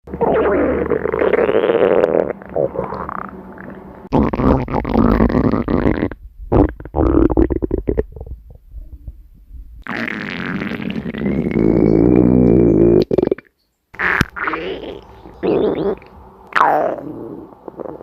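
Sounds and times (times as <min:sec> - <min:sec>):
stomach growling: 0:00.1 - 0:09.2, 0:09.8 - 0:13.5, 0:14.2 - 0:18.0.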